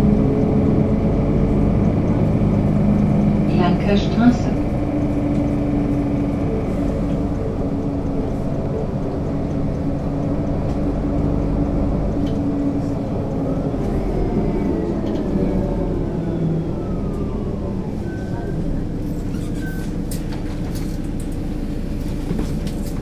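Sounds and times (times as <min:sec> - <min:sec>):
bus engine drone: 0:00.0 - 0:23.0.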